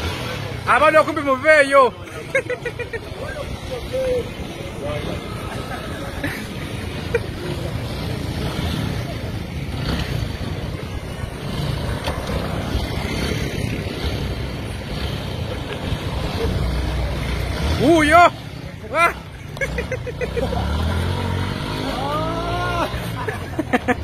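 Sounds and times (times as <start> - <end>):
motorcycle engine rumbling: 0.0 - 24.0.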